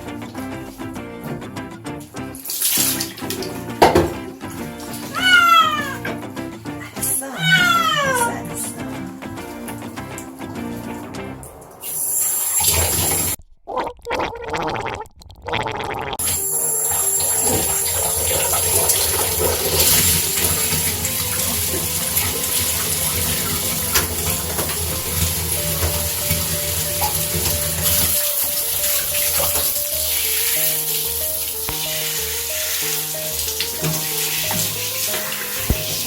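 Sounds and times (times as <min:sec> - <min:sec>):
shower water spraying and splashing: 0:02.3 - 0:13.4, 0:16.2 - 0:36.0.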